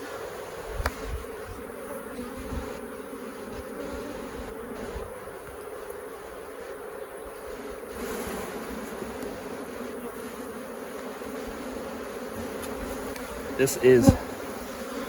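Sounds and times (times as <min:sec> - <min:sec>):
honey bees buzzing: 0:00.1 - 0:15.0.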